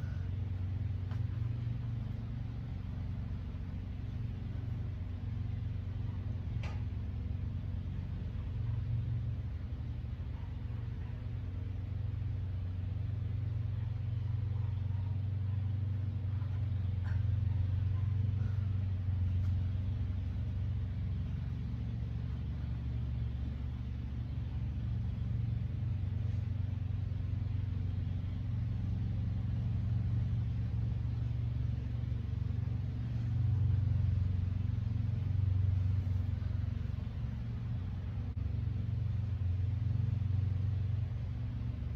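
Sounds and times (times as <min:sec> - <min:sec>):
low background rumble: 0:00.0 - 0:41.9.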